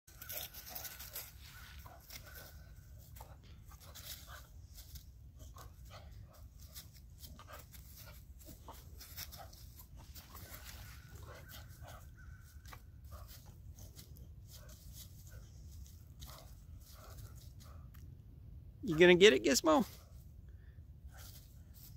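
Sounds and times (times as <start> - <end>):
paws crunching dry leaves: 0.1 - 17.8.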